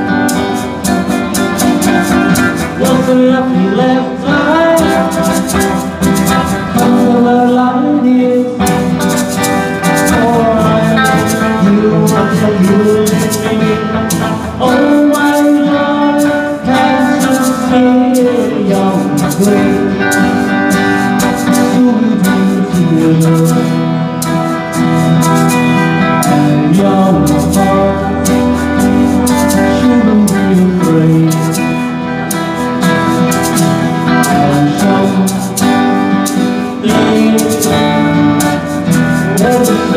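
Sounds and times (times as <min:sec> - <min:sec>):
guitars: 0:00.0 - 0:39.9
live band playing pop: 0:00.0 - 0:39.9
person singing: 0:00.0 - 0:39.9.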